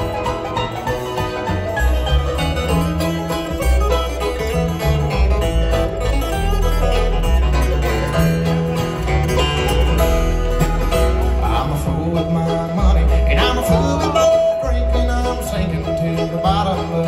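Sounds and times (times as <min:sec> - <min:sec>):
acoustic guitar: 0:00.0 - 0:17.0
banjo: 0:00.0 - 0:17.0
upright bass: 0:00.0 - 0:17.0.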